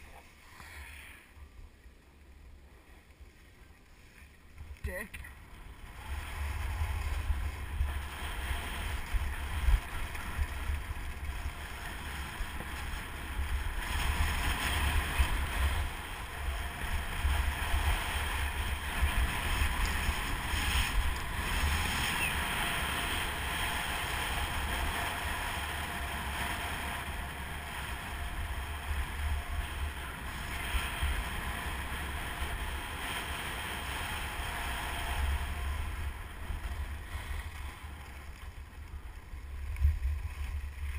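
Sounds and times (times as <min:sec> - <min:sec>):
skis sliding on snow: 0:00.0 - 0:04.7, 0:05.6 - 0:40.9
wind buffeting microphone: 0:05.5 - 0:40.9.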